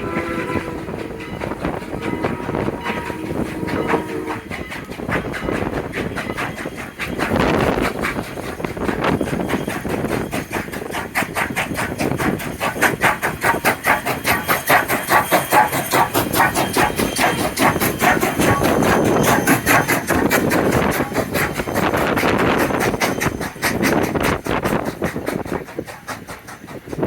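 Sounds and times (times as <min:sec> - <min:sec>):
steam hissing: 0:00.0 - 0:27.0
steam locomotive exhaust chuff: 0:00.0 - 0:27.0.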